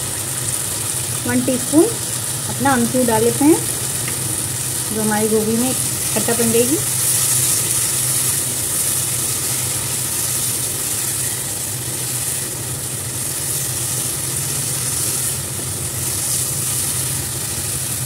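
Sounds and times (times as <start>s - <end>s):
gravy sizzling in oil: 0.0s - 18.0s
steady low hum: 0.0s - 18.0s.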